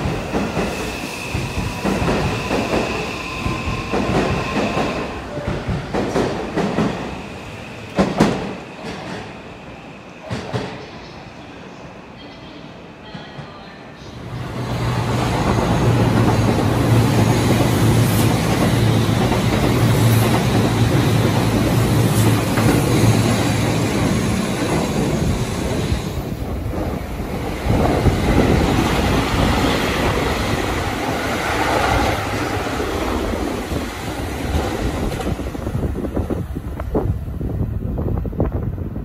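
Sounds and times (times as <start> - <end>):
train wheels on rails: 0.0 - 9.6, 10.2 - 11.2, 13.1 - 37.2
low train hum: 0.0 - 39.0.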